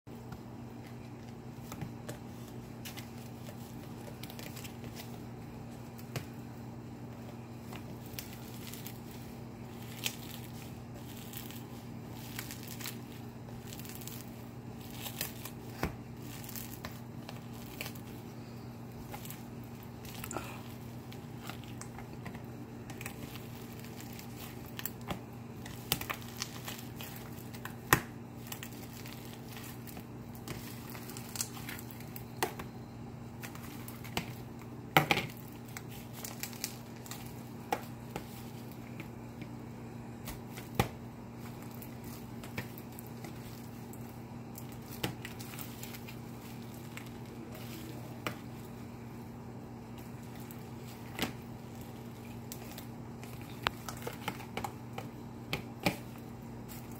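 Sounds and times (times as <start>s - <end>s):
steady low hum: 0.1s - 56.9s
slime crackling and crunching: 0.8s - 6.4s, 7.2s - 39.5s, 40.1s - 56.9s.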